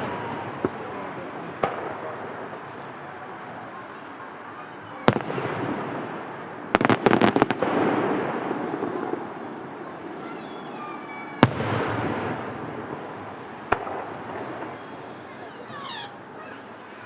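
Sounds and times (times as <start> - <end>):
rumbling echo: 0.0 - 4.4, 5.0 - 16.2
firework cracks: 0.0 - 16.5
fireworks bangs: 0.0 - 17.0.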